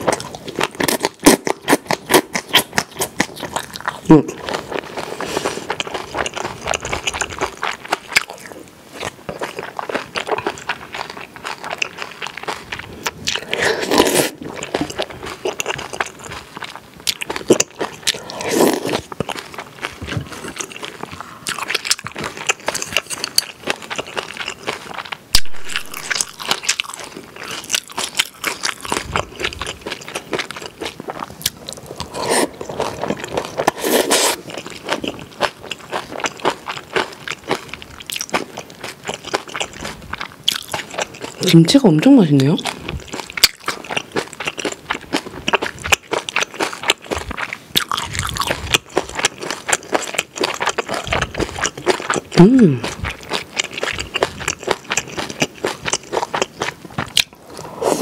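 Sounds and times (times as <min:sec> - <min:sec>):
wet chewing and crunching: 0:00.0 - 0:58.0.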